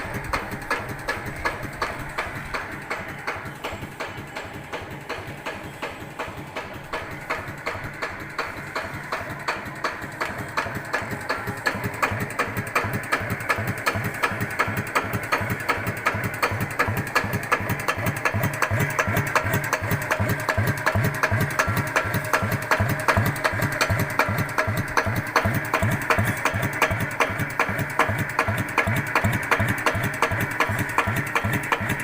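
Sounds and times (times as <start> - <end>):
diesel engine idling with knocks: 0.0 - 32.0.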